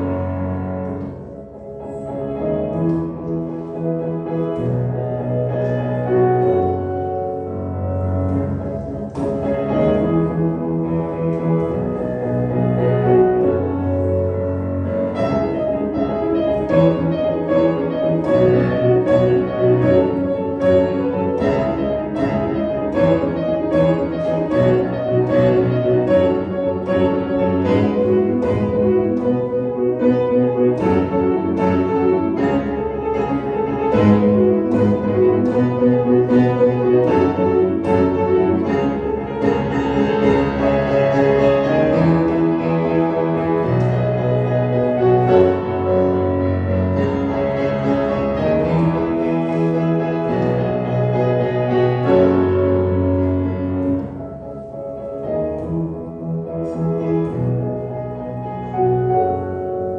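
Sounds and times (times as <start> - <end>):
piano and cello classical piece: 0.0 - 59.9.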